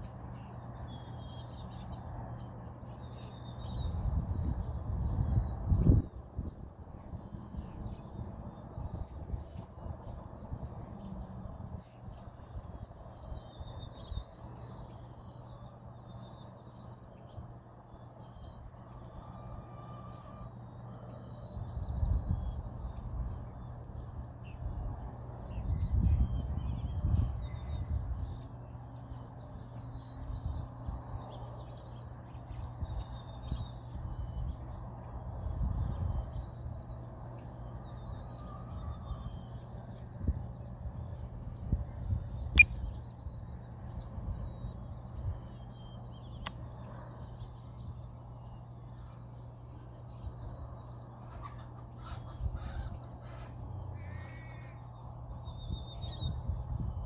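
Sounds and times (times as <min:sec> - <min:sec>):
low rumbling wind gusts: 0:00.0 - 0:57.0
small birds chirping: 0:00.0 - 0:57.0
steady low hum: 0:00.0 - 0:57.0.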